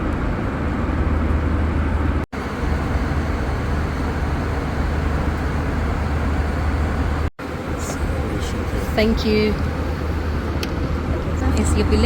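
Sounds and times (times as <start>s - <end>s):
airliner engine and air drone: 0.0s - 12.0s.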